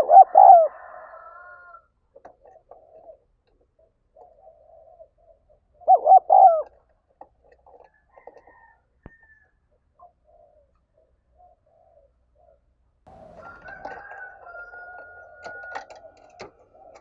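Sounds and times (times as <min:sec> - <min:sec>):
dove cooing: 0:00.0 - 0:06.9, 0:10.0 - 0:17.0.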